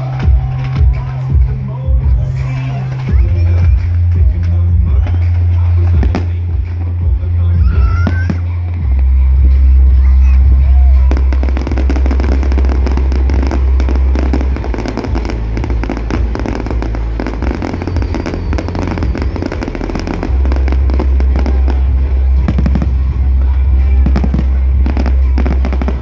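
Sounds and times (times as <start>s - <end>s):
fireworks booming bursts: 0.0s - 26.0s
fireworks crackling and popping: 0.0s - 26.0s.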